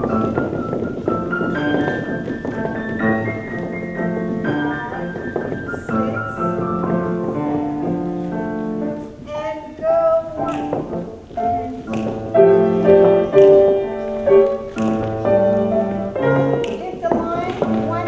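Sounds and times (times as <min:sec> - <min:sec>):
classical piano melody: 0:00.0 - 0:18.0.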